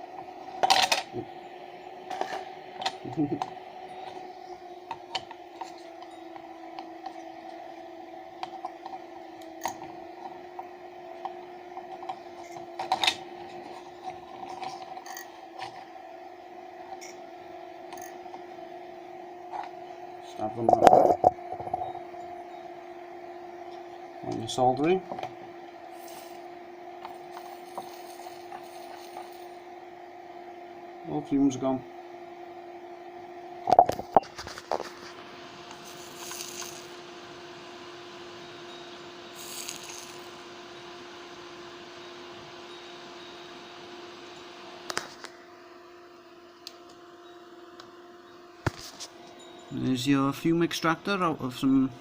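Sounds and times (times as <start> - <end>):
fans humming: 0.0 - 52.0.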